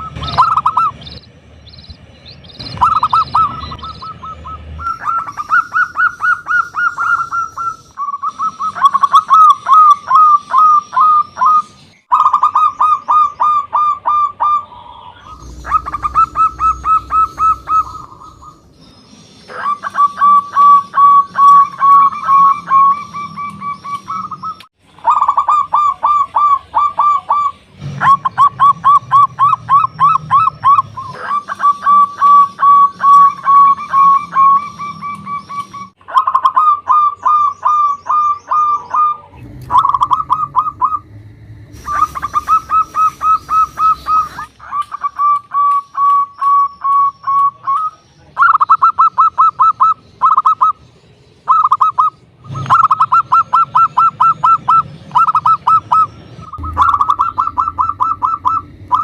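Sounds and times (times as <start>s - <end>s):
dove cooing: 0.0s - 1.0s, 2.6s - 18.7s, 19.4s - 50.8s, 51.5s - 59.0s.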